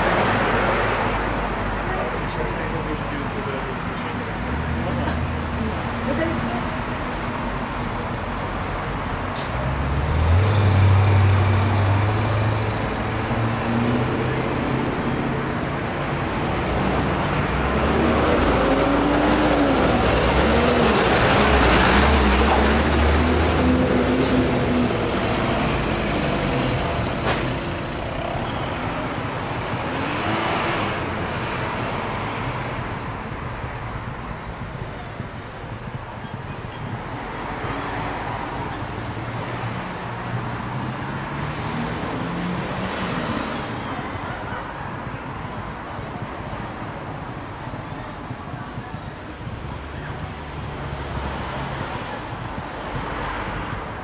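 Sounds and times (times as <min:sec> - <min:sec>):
heavy vehicle engine hum: 0:00.0 - 0:54.0
road traffic: 0:00.0 - 0:54.0.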